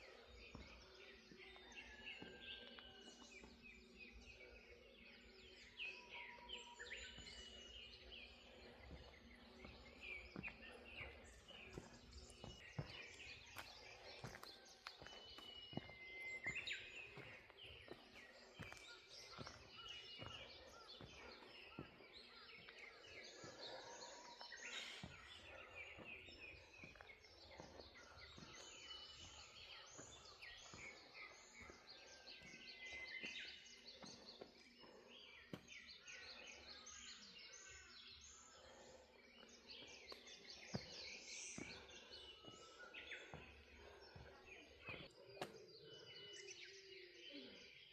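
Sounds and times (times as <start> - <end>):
birds chirping and whistling: 0.0 - 47.9.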